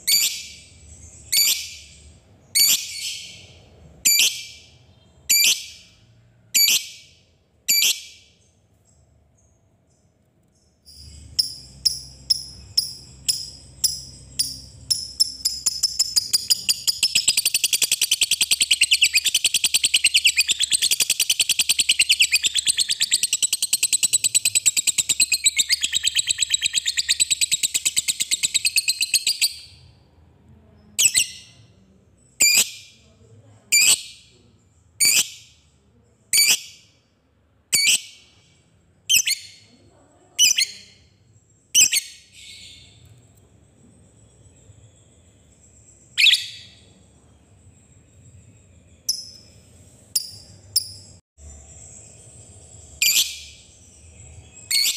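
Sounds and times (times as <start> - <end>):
lovebird chirping and trilling: 0.0 - 6.0, 6.6 - 10.0, 10.6 - 29.9, 30.8 - 33.0, 33.7 - 34.3, 35.0 - 35.6, 36.3 - 37.0, 37.7 - 38.4, 39.0 - 39.8, 40.4 - 43.1, 44.1 - 54.9.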